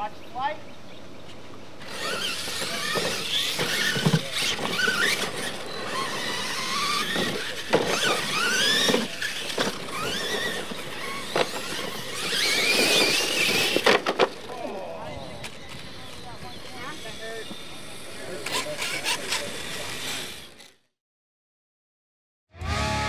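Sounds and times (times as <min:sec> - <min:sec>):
electric motors whining: 0:01.8 - 0:20.9, 0:22.6 - 0:23.0.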